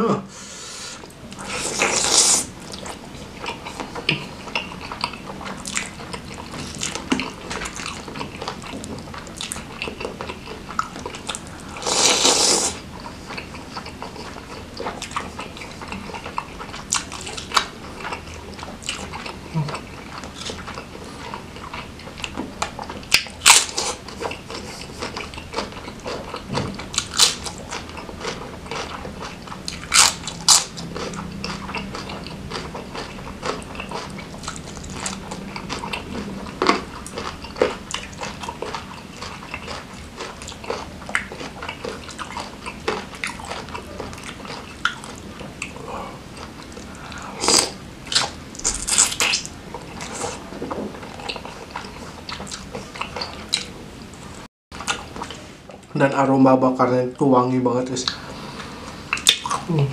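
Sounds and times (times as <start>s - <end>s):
wet chewing and biting: 1.4s - 45.8s, 46.4s - 53.7s.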